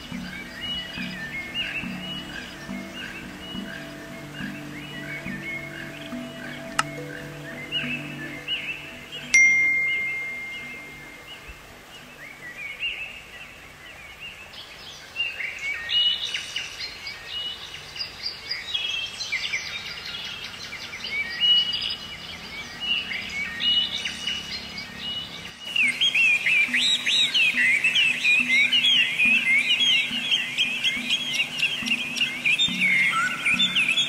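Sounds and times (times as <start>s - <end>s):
songbirds chirping and singing: 0.0s - 34.0s.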